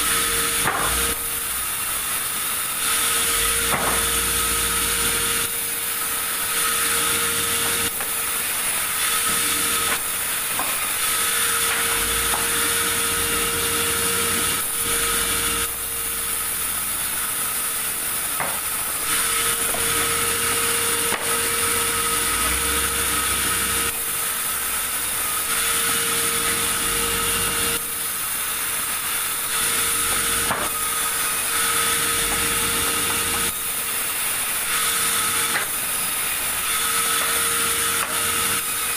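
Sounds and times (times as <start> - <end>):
steady hum: 0.0 - 36.6
saw cutting timber: 0.0 - 38.9.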